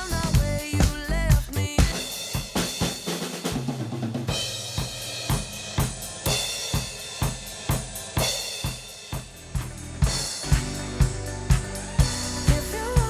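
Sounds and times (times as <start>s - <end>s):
drum kit groove: 0.0s - 13.0s.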